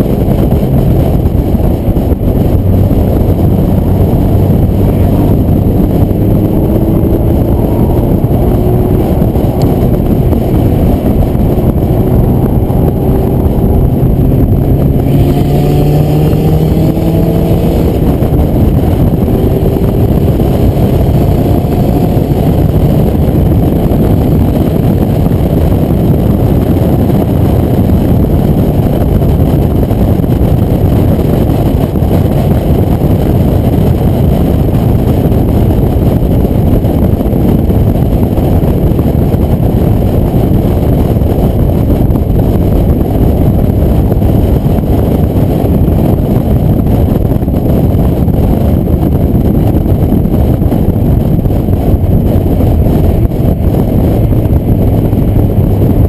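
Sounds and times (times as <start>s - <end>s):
car engine accelerating: 0.0s - 56.0s
wind and road rush: 0.0s - 56.0s.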